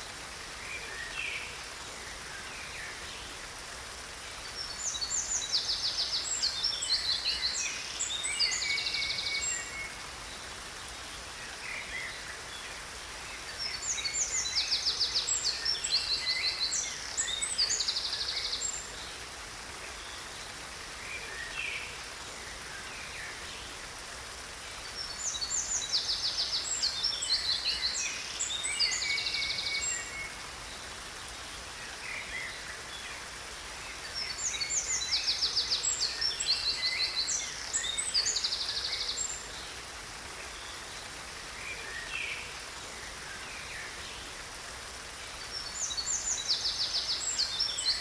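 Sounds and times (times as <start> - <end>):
falling water hiss: 0.0 - 48.0.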